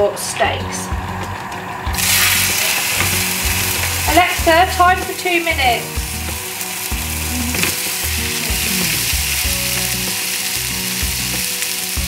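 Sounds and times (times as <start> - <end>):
steaks sizzling in a pan: 2.0 - 12.0.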